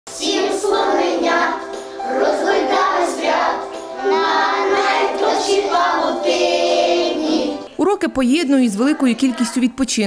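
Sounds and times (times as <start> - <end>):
children's song with singing: 0.1 - 7.8, 8.5 - 9.9.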